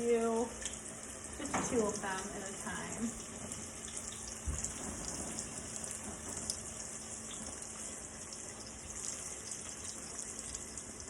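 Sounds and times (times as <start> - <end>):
chicken sizzling in hot oil: 0.0 - 11.0
faint oil crackles: 0.0 - 11.0.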